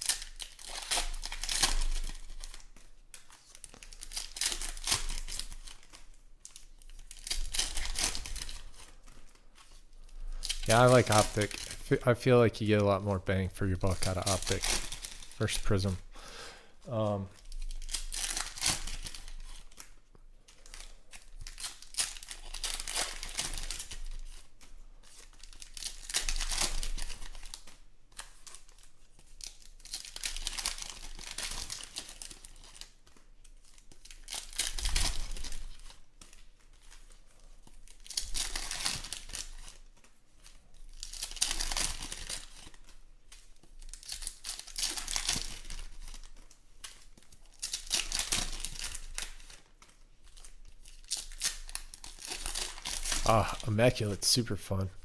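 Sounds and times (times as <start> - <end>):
foil wrappers tearing and crinkling: 0.0 - 12.8, 13.6 - 16.3, 17.1 - 54.5.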